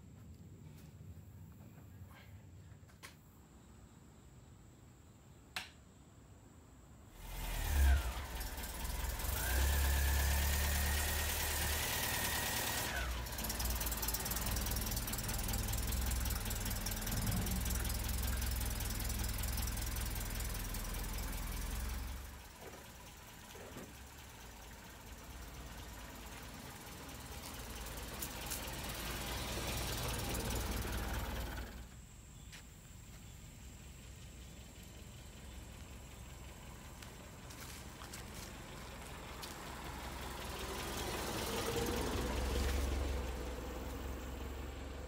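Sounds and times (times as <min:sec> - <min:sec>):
car engine starting and running: 0:07.1 - 0:45.0.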